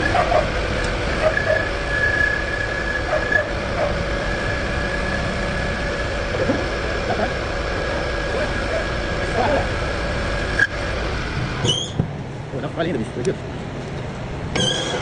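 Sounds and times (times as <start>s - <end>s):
machine tool whining and humming: 0.0s - 15.0s.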